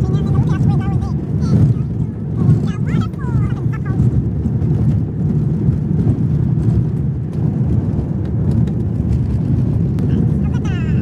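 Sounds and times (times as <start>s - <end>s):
tyres and engine rumble: 0.0s - 11.0s.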